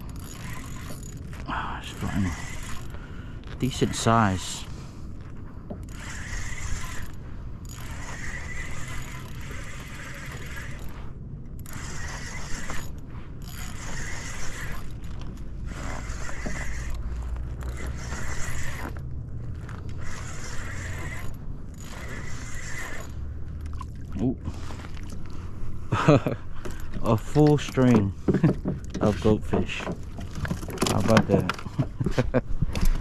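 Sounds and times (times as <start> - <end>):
fishing reel gears whirring and clicking: 0.0 - 31.7.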